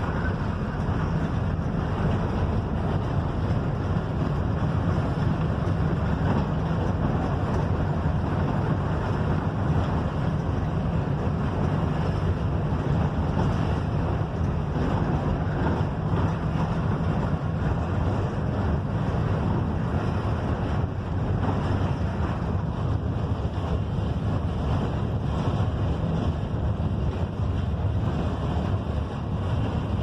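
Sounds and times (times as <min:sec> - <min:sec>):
bus engine drone: 0:00.0 - 0:30.0
road and wind rumble: 0:00.0 - 0:30.0.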